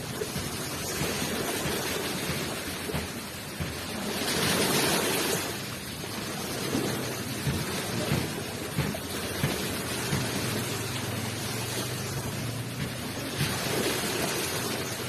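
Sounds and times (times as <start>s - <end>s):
ocean waves washing onto shore: 0.0s - 15.0s.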